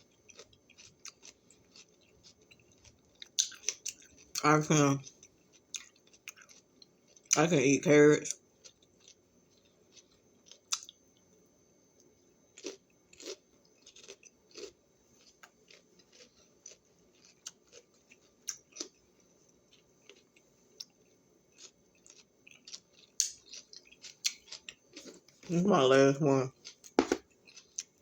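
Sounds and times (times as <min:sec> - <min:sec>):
person chewing crunchy snack: 0:00.0 - 0:04.4, 0:05.0 - 0:07.4, 0:08.6 - 0:11.0, 0:12.5 - 0:25.7, 0:26.5 - 0:28.0.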